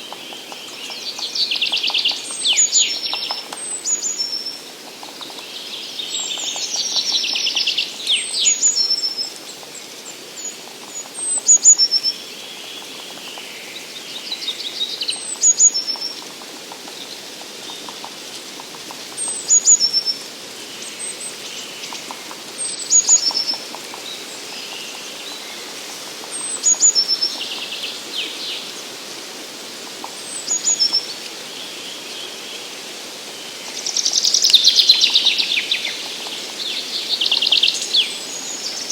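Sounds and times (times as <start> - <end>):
birds chirping and trilling softly: 0.0 - 38.9.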